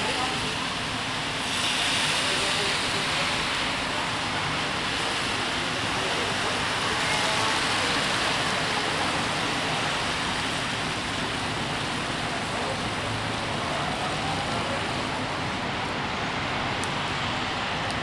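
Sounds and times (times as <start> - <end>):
rain on a street: 0.0 - 18.0
traffic hissing on wet road: 0.0 - 18.0.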